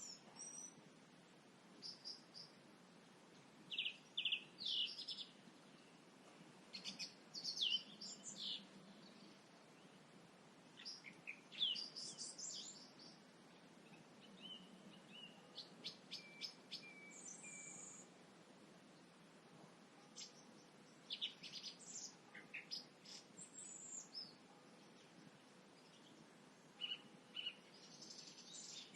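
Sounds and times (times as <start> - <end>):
faint background hiss: 0.0 - 28.9
songbirds chirping and trilling: 0.0 - 28.9.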